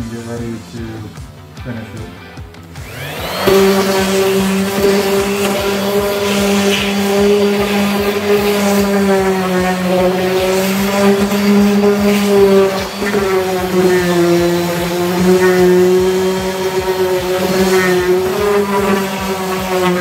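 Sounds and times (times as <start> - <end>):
orbital sander sanding wood: 2.8 - 20.0.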